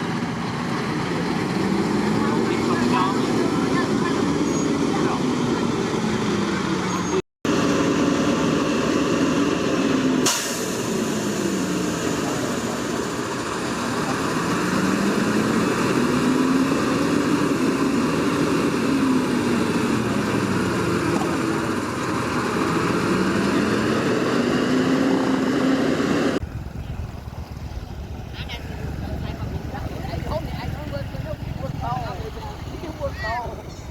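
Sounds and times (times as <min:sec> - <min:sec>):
truck diesel engine revving: 0:00.0 - 0:33.9.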